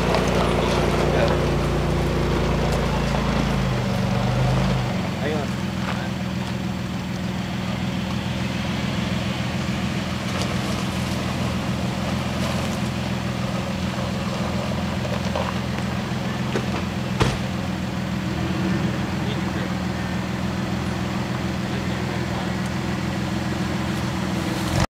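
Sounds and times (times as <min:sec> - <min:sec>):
off-road engine running: 0:00.0 - 0:24.9.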